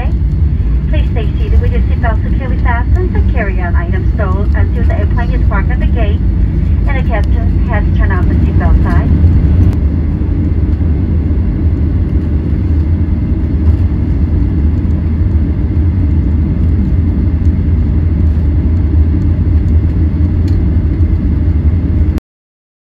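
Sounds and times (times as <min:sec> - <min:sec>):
airplane cabin rumble: 0:00.0 - 0:22.2.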